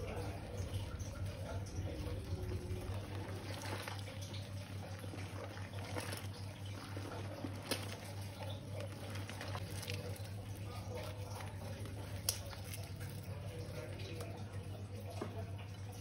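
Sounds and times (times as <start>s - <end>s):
slime squishing by hand: 0.0s - 14.5s
foam bubbles popping: 0.0s - 16.0s.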